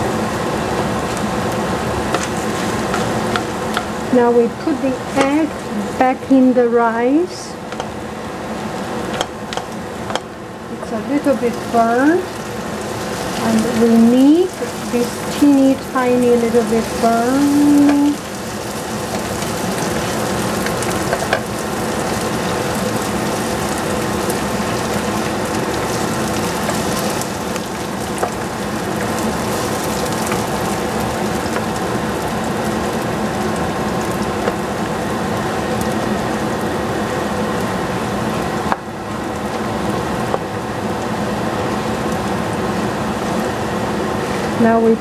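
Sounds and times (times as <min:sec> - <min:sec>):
rice frying and crackling: 0:00.0 - 0:06.4, 0:07.2 - 0:45.0
steady hum: 0:00.0 - 0:45.0.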